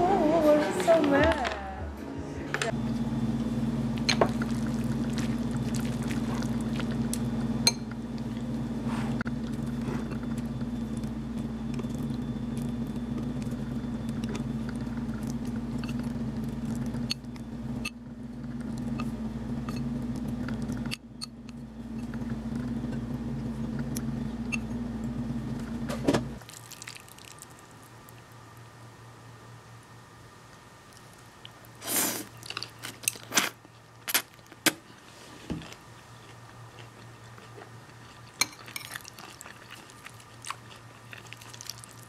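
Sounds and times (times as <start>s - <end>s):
appliance humming: 0.0s - 42.0s.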